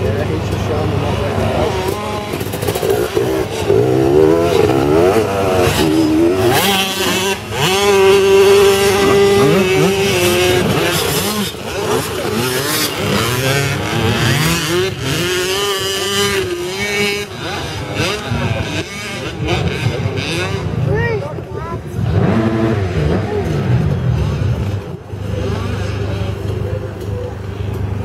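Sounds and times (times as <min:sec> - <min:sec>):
motocross bikes revving: 0:00.0 - 0:28.0.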